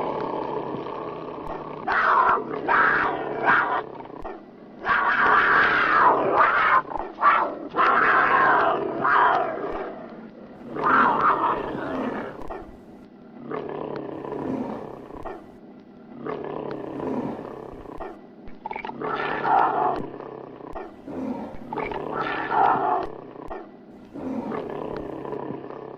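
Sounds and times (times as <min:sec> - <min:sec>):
tiger roaring and growling: 0:00.0 - 0:15.6, 0:16.2 - 0:25.9.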